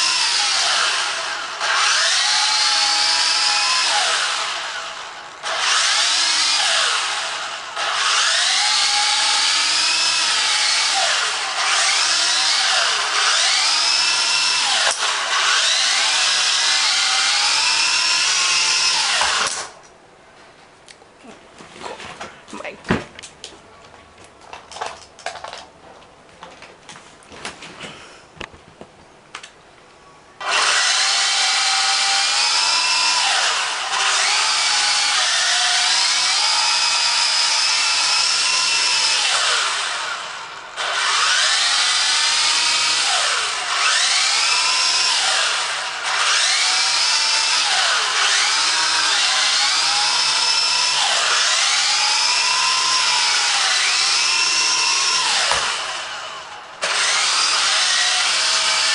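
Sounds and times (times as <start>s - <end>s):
rc helicopter motor whine: 0.0s - 19.7s, 30.4s - 58.9s.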